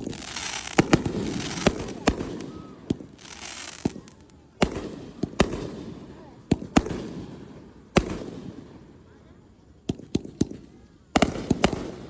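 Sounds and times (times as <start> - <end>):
fireworks booming: 0.0 - 9.0, 9.8 - 12.0
fireworks crackling: 0.0 - 12.0.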